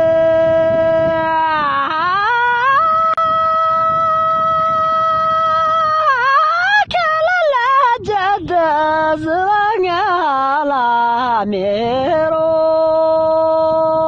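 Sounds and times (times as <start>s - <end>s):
person singing high: 0.0s - 14.0s.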